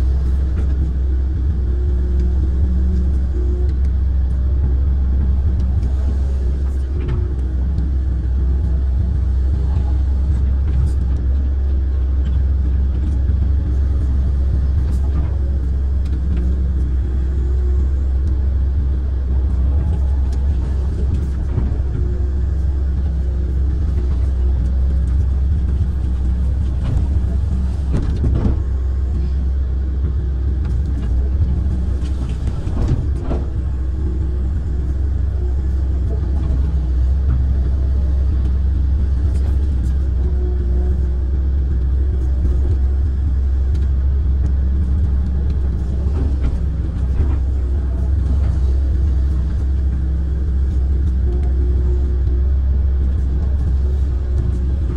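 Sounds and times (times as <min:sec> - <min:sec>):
excavator diesel engine droning: 0:00.0 - 0:54.9.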